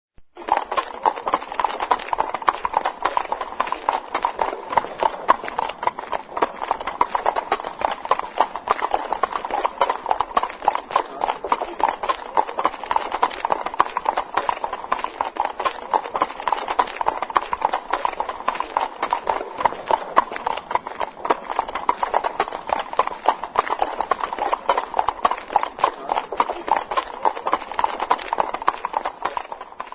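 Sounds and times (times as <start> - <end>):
horse hooves clip-clopping: 0.3 - 29.9.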